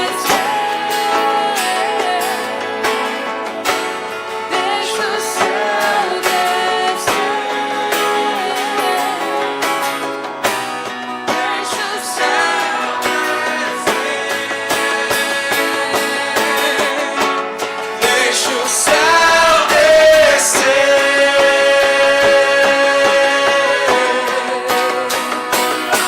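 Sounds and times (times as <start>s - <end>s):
strummed acoustic guitar: 0.0s - 26.0s
worship band music: 0.0s - 26.0s.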